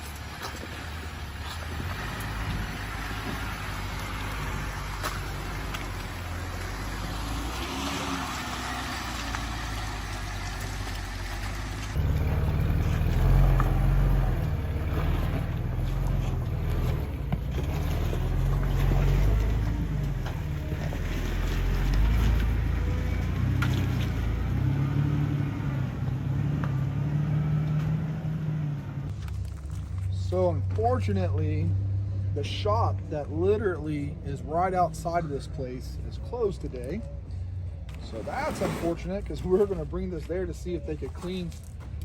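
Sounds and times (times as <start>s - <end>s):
off-road vehicle engine rumbling: 0.0s - 42.0s.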